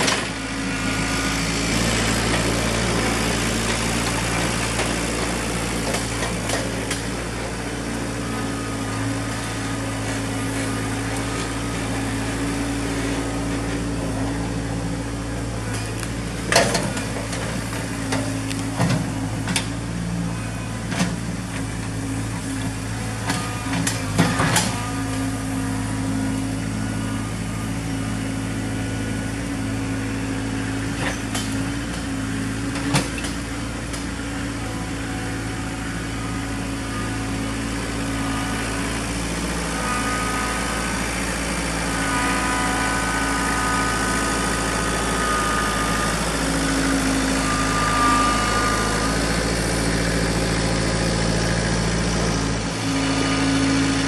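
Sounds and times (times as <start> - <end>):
high whine: 0.0 - 54.0
tractor diesel engine running: 0.0 - 54.0.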